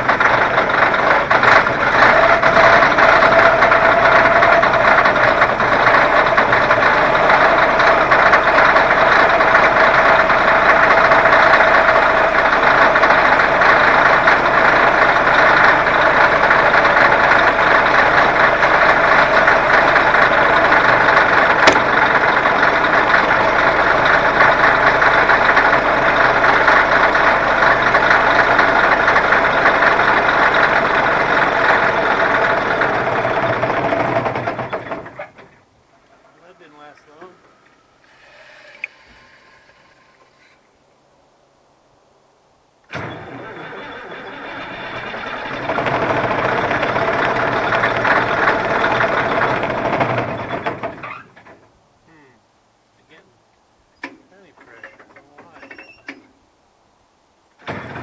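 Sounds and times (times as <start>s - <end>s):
diesel engine running: 0.0s - 40.7s, 42.9s - 52.3s, 57.6s - 58.0s.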